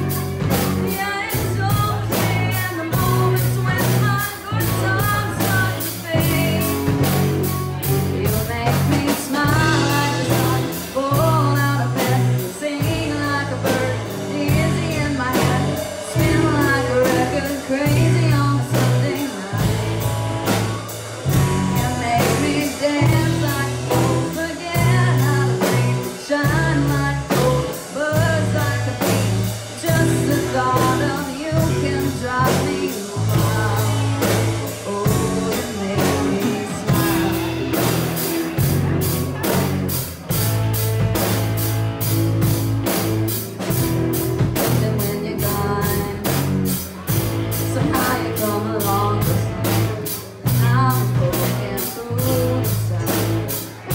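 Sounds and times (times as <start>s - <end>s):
lead vocal singing: 0.0s - 39.7s, 44.6s - 53.9s
bass: 0.0s - 53.9s
drums steady beat: 0.0s - 53.9s
guitar: 0.0s - 53.9s.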